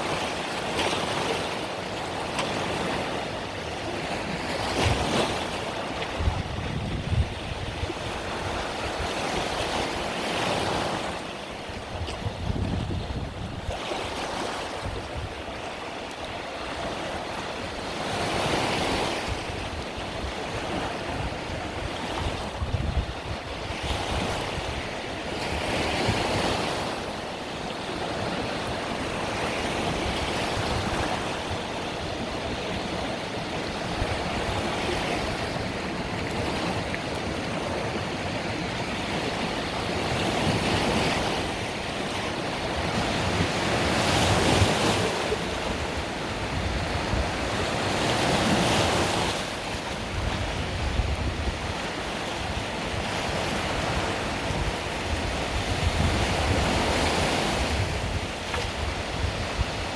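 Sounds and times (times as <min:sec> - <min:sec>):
waves breaking on shore: 0:00.0 - 0:59.9
wind buffeting microphone: 0:04.5 - 0:15.7, 0:16.6 - 0:59.9.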